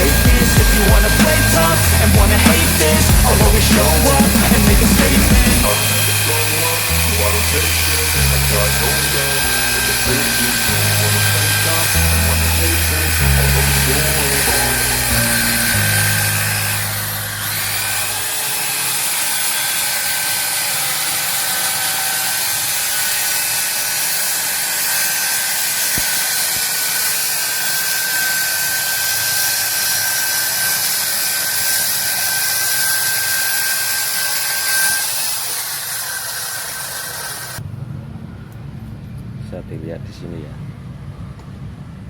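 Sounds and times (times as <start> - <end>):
circular saw cutting plywood: 0.0 - 37.6.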